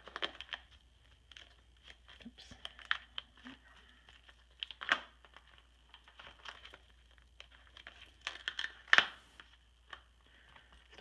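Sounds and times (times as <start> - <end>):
plastic page protectors crinkling: 0.0 - 11.0.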